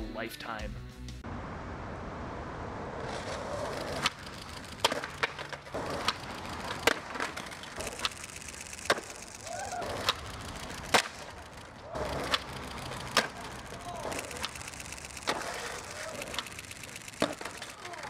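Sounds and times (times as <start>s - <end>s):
skateboard wheels rolling on concrete: 1.2s - 18.0s
skateboard clacking on ground: 3.0s - 18.0s.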